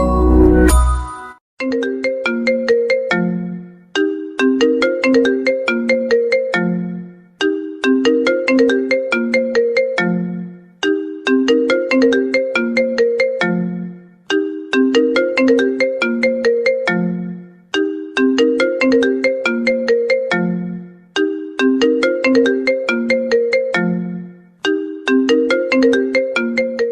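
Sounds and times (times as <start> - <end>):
smartphone ringtone melody: 0.0 - 26.9.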